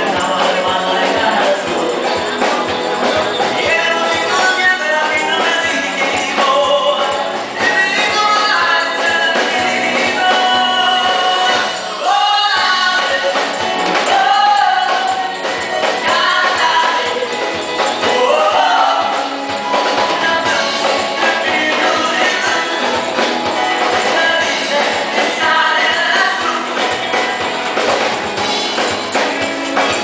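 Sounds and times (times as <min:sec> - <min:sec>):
drums: 0:00.0 - 0:30.0
electric guitar: 0:00.0 - 0:30.0
people singing together: 0:00.0 - 0:30.0
percussion: 0:00.0 - 0:30.0.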